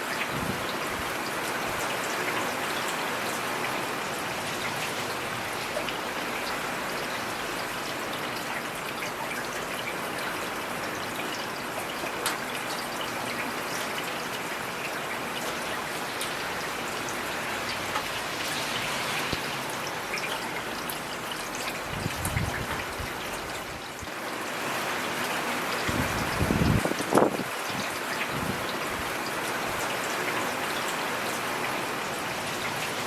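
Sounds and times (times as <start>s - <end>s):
heavy rain falling: 0.0s - 33.0s
raindrops ticking on hard surfaces: 0.0s - 33.0s.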